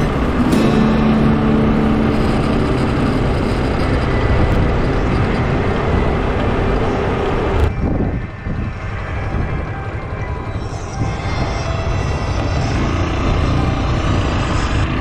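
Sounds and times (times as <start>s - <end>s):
low hum: 0.0s - 15.0s
wind and road noise: 0.0s - 15.0s.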